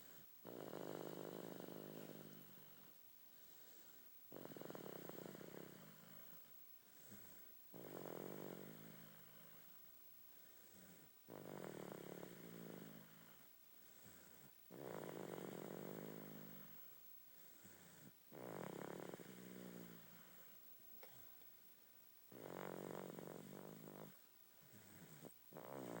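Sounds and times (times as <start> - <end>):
person snoring: 0.0 - 9.8, 10.5 - 16.9, 17.6 - 21.2, 22.3 - 26.0.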